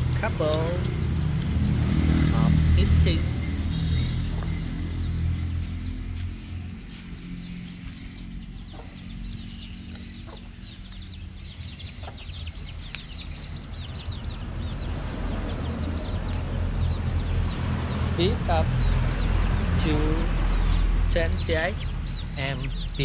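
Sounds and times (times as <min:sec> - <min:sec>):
chicks peeping: 0:00.2 - 0:23.0.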